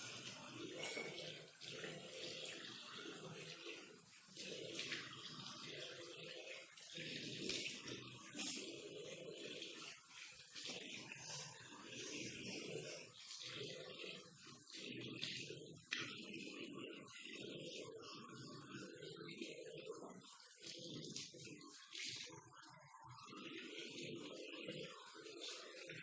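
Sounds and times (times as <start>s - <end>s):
tap water running into basin: 0.0s - 26.0s.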